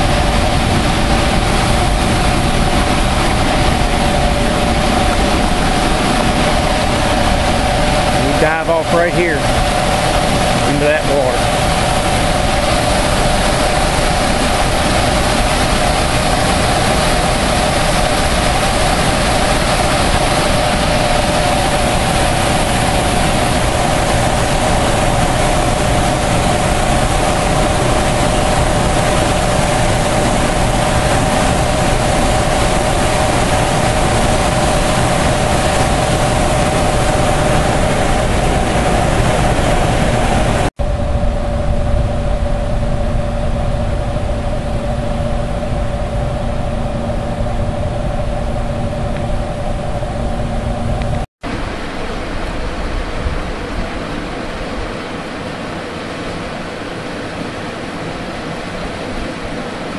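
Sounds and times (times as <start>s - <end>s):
machine hum: 0.0s - 59.9s
water rushing roar: 0.0s - 59.9s.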